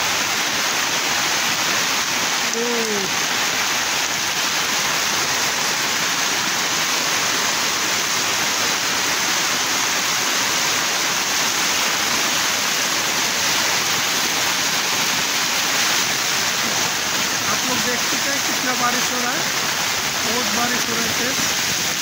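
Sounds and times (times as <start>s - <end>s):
heavy rain on an umbrella: 0.0s - 22.0s.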